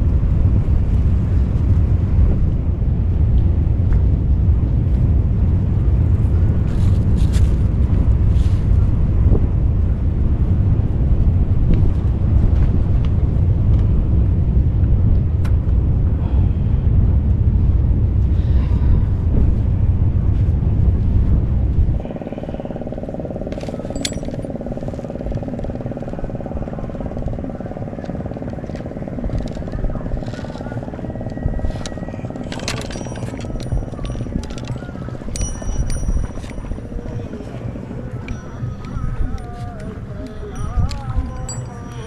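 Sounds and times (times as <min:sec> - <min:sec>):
steady motor drone: 0:00.0 - 0:42.0
wind buffeting microphone: 0:00.0 - 0:42.0.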